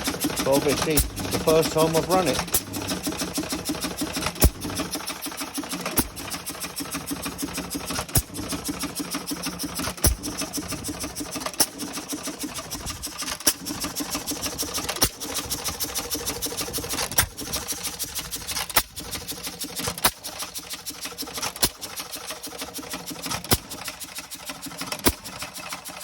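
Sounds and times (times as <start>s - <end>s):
hit-and-miss engine firing: 0.0s - 25.6s
ticking gear clatter: 0.0s - 26.0s.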